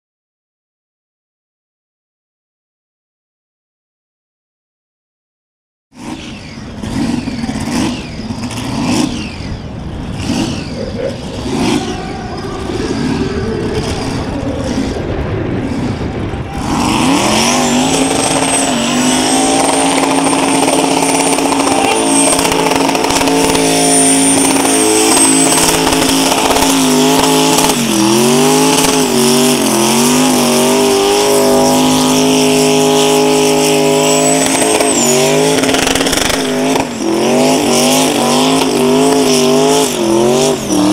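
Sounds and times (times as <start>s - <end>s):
car engine revving: 6.0s - 40.9s
high whine: 6.0s - 40.9s
wheels spinning: 6.0s - 40.9s.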